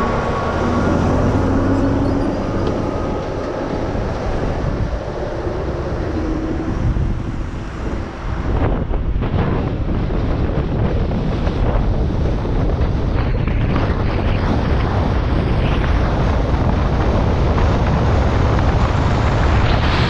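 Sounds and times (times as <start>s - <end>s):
car engine and tyre road noise: 0.0s - 20.0s
wind buffeting microphone: 0.0s - 20.0s.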